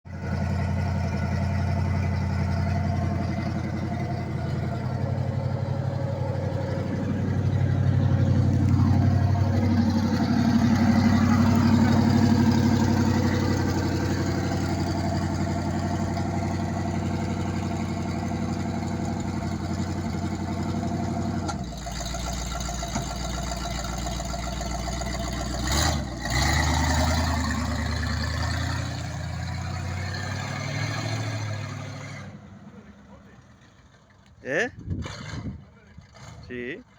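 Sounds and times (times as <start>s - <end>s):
car engine running: 0.1s - 36.9s.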